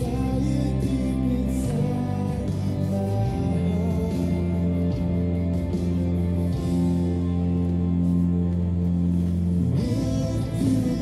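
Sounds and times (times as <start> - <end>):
worship song with guitar: 0.0 - 11.0.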